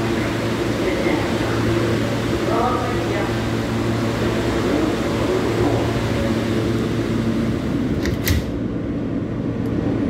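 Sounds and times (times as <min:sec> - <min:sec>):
subway doors sliding shut: 0:00.0 - 0:08.9
subway car hum: 0:00.0 - 0:10.0.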